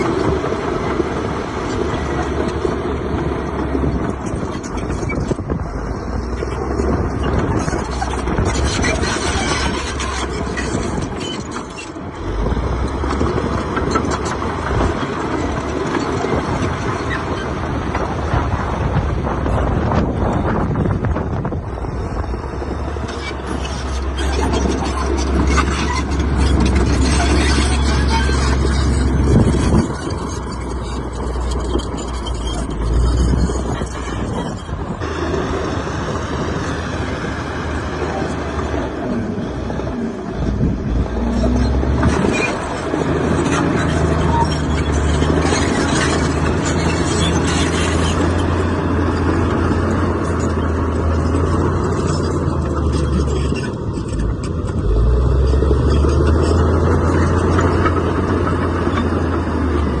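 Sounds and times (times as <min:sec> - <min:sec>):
heavy diesel machinery running: 0:00.0 - 1:00.0.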